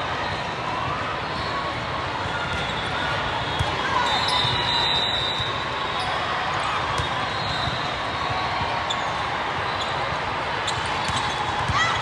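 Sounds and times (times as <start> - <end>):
sports hall din: 0.0 - 12.0.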